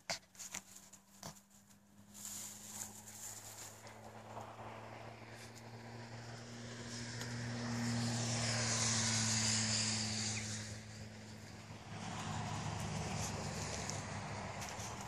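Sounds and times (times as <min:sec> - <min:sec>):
steady low hum: 0:00.0 - 0:15.0
distant vehicle passing: 0:01.0 - 0:15.0.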